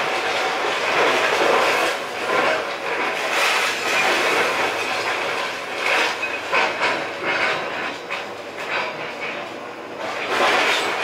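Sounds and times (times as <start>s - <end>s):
excavator demolishing a house: 0.0s - 11.0s.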